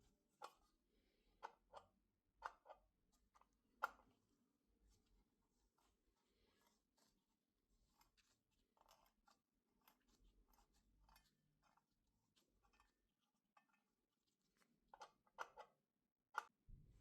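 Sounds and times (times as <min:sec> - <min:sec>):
faint small clicks and scratches: 0:00.0 - 0:17.0.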